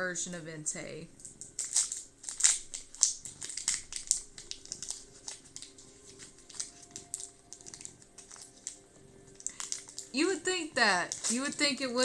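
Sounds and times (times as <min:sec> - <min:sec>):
plastic wrapping crinkling: 0:01.2 - 0:12.0.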